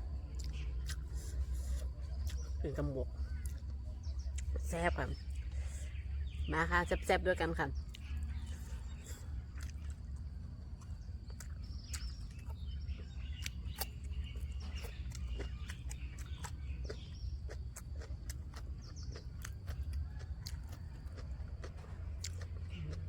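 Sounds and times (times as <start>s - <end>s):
steady low rumble: 0.0s - 23.0s
small birds chirping: 0.1s - 23.0s.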